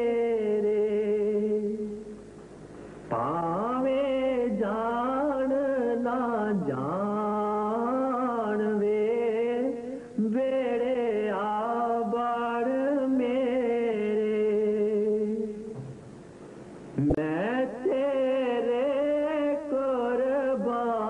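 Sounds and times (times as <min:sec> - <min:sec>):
person singing a slow hymn: 0:00.0 - 0:02.2, 0:02.9 - 0:15.8, 0:17.0 - 0:21.0.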